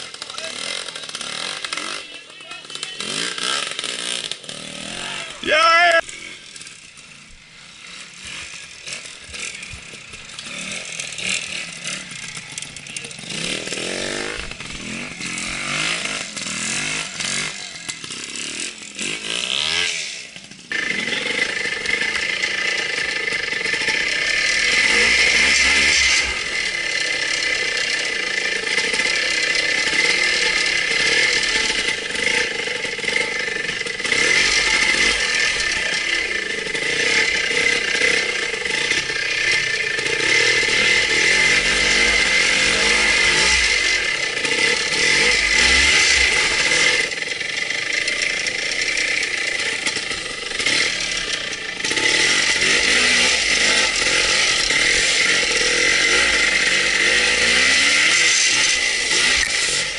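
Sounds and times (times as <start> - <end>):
motorcycle engine revving: 0.0 - 59.9
engine running with whine: 2.8 - 59.9.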